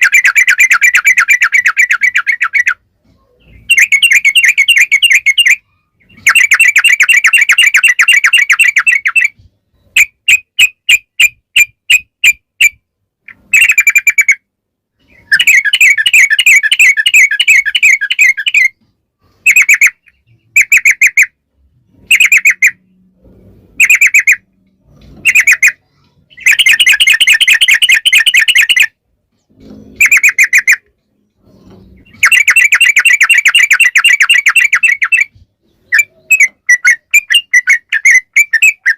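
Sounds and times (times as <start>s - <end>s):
bird singing rolling trills: 0.0s - 10.0s, 13.4s - 38.9s.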